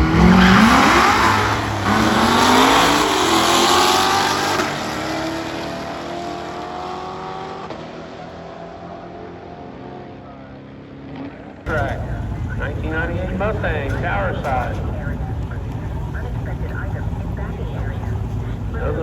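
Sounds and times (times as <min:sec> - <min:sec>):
drag racing car accelerating: 0:00.0 - 0:19.0.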